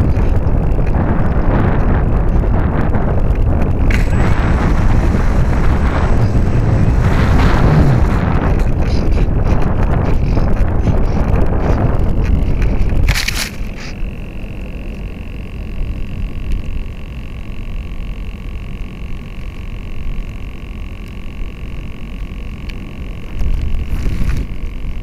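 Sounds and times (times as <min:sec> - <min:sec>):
wind rumbling on microphone: 0:00.0 - 0:17.9, 0:21.9 - 0:25.0
high electrical buzz: 0:00.0 - 0:25.0.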